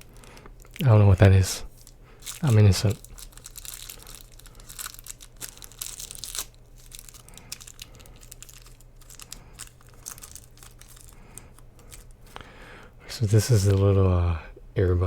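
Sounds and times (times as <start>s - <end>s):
plastic packaging crinkling and tearing: 0.0s - 12.4s.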